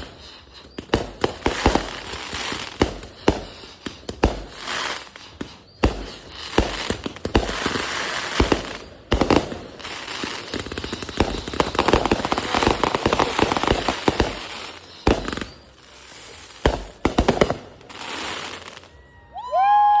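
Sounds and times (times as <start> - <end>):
fireworks crackling pops: 0.0 - 19.0
fireworks sharp bangs: 0.0 - 19.0.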